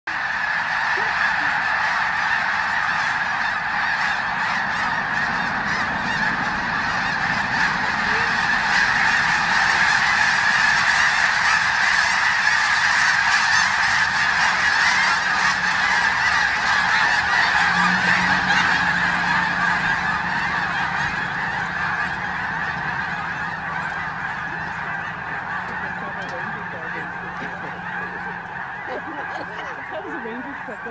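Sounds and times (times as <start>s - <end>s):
geese honking: 0.1s - 30.9s.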